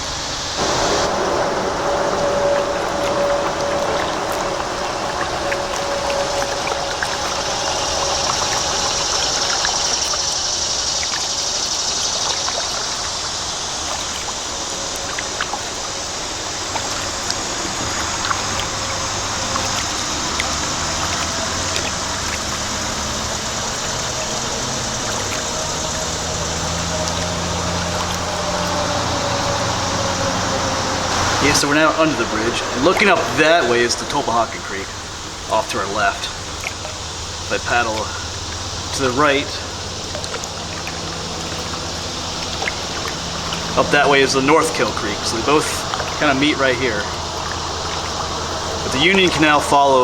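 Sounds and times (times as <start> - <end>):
road traffic hum: 0.0 - 50.0
water dripping off paddle: 0.0 - 50.0.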